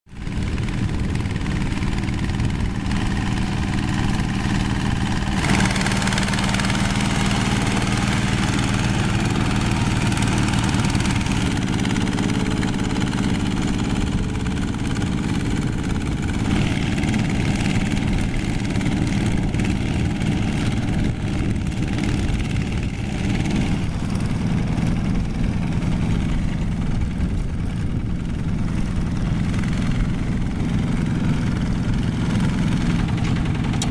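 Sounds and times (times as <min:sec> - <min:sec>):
diesel tractor engines running: 0:00.1 - 0:33.9.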